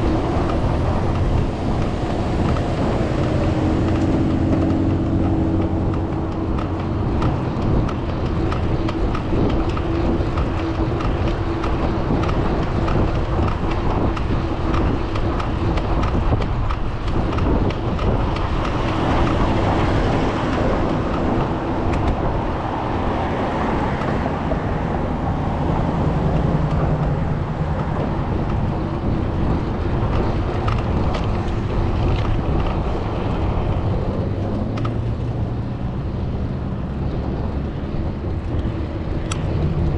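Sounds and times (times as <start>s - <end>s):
passing vehicles: 0.0s - 39.9s
wind on microphone: 0.0s - 39.9s.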